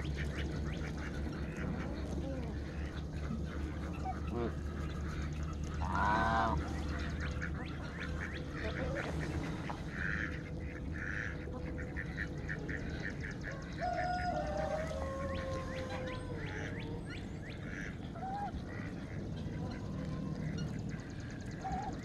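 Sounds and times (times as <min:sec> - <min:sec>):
ducks quacking: 0:00.0 - 0:22.0
geese honking: 0:00.0 - 0:22.0.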